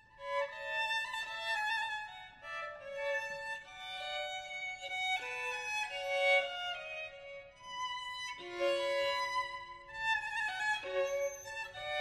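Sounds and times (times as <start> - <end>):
violin melody: 0.0 - 12.0.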